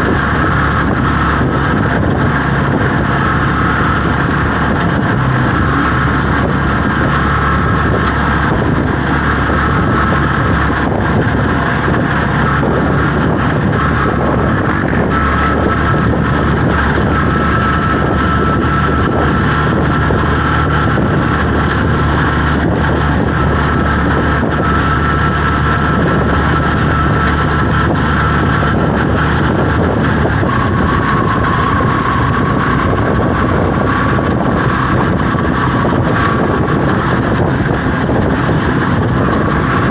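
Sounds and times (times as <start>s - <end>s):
road and wind noise: 0.0s - 39.9s
vehicle engine droning: 0.0s - 39.9s.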